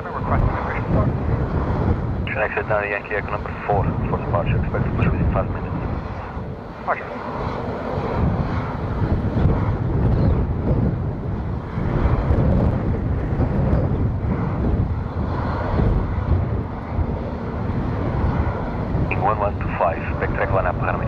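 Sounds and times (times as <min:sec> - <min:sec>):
jet engines rumbling: 0:00.0 - 0:21.0
wind gusting on microphone: 0:00.0 - 0:21.0.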